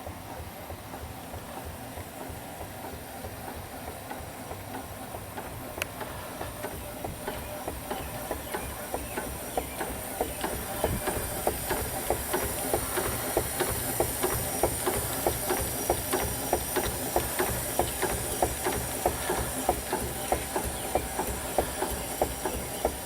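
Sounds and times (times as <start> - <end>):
steam engine beats: 0.0 - 23.0
steam hissing: 0.8 - 23.0.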